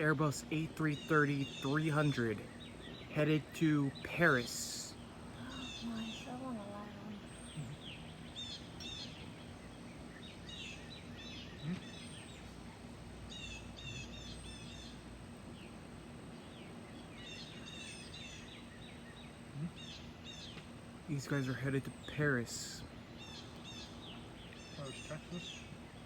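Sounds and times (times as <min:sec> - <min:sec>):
faint background rumble: 0:00.0 - 0:26.0
songbirds chirping: 0:00.0 - 0:26.0.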